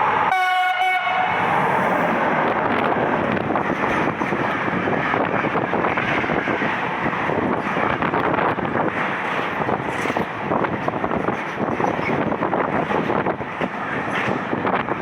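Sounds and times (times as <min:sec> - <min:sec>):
freight train passing: 0:00.0 - 0:15.0
wind buffeting microphone: 0:00.0 - 0:15.0.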